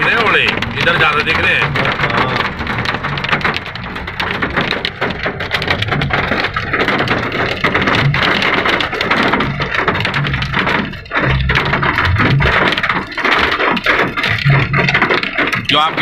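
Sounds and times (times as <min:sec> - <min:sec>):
hail and rain on car roof: 0:00.0 - 0:16.0.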